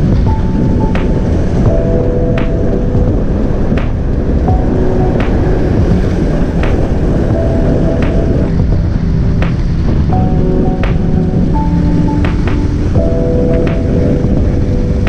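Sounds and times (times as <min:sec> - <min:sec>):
background music: 0:00.0 - 0:15.0
motorcycle road noise: 0:00.0 - 0:15.0
wind rush on microphone: 0:00.0 - 0:15.0.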